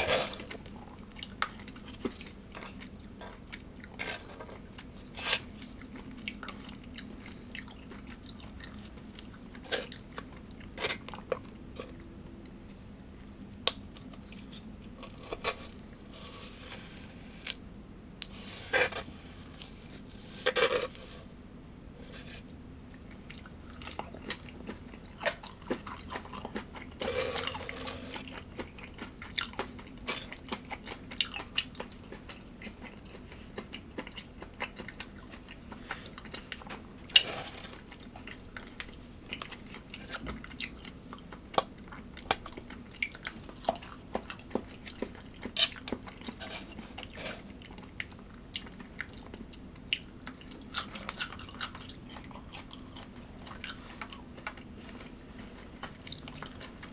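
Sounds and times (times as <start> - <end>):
person chewing crunchy food: 0.0 - 56.9.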